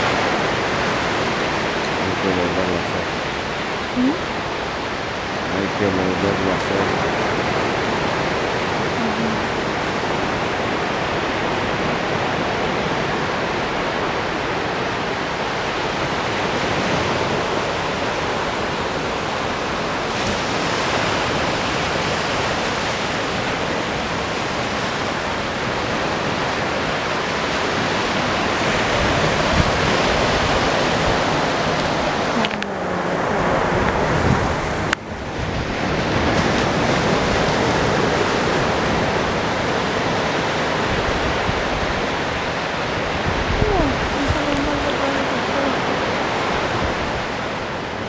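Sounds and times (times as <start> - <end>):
ocean waves rushing: 0.0 - 48.0.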